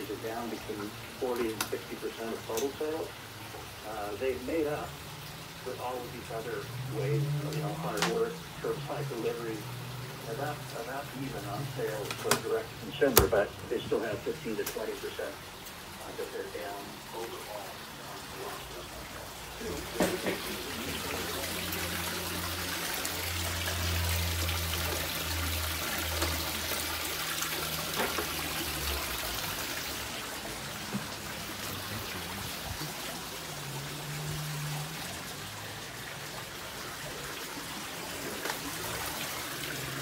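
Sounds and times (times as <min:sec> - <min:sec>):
running water trickling: 0:00.0 - 0:40.0.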